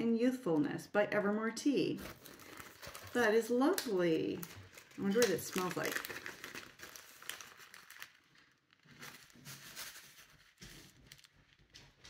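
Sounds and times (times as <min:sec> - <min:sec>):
plastic bag crinkling: 0:01.9 - 0:12.0.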